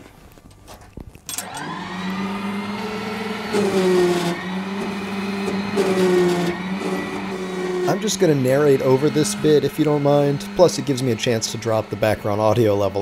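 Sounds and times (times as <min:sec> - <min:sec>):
hydraulic pump motor whining: 0:01.4 - 0:13.0.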